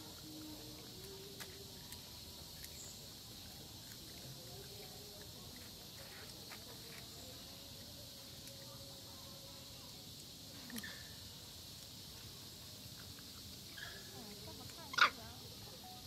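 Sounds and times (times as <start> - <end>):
insect chorus hissing: 0.0 - 16.0.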